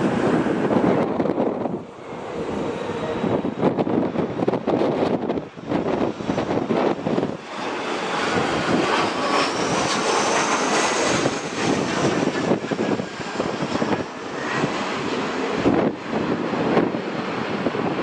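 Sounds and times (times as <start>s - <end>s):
jet airliner engines passing: 0.0s - 18.0s
wind gusting on microphone: 0.0s - 18.0s.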